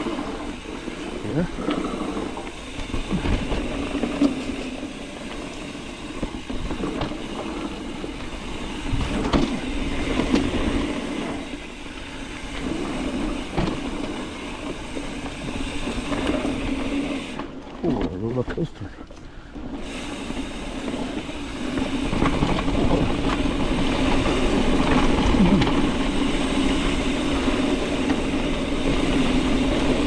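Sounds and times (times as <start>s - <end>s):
bike knocking and rattling: 0.0s - 30.0s
bike tyres rolling on dirt: 0.0s - 30.0s.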